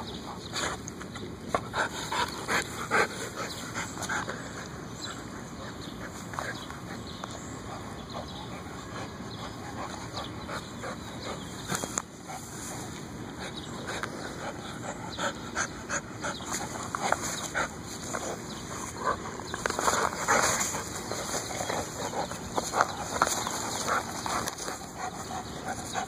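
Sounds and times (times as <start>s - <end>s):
dog panting: 0.0s - 26.0s.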